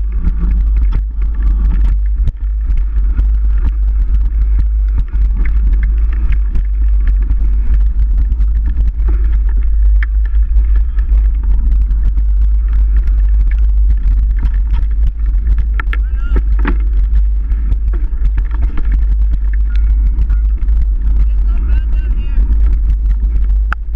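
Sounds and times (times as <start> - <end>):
bike rattling over rough ground: 0.0 - 23.9
wind buffeting microphone: 0.0 - 23.9.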